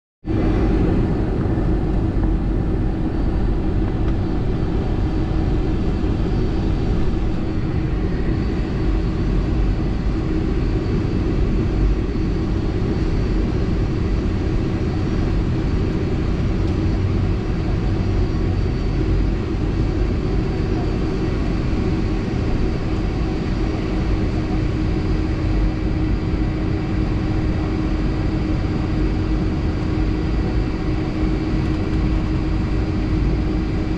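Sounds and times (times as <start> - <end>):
jet engines rumbling: 0.3 - 33.9.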